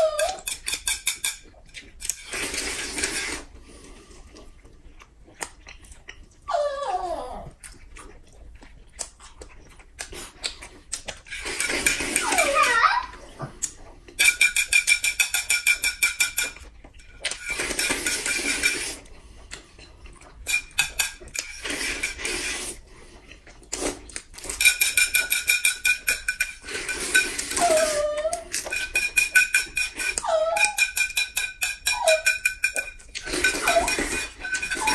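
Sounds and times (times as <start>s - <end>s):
noodles being slurped: 0.3s - 6.4s, 7.7s - 14.3s, 17.2s - 34.9s.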